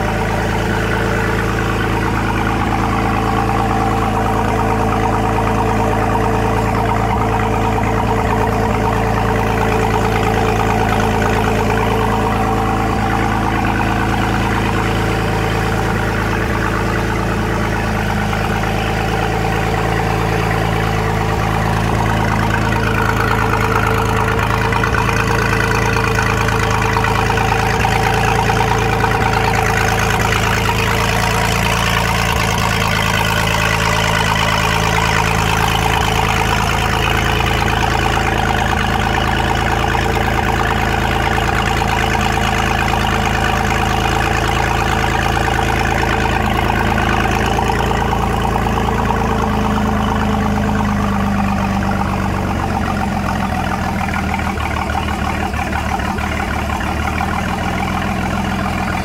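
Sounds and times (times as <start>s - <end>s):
exhaust spitting water: 0.0s - 59.0s
marine engine idling: 0.0s - 59.0s.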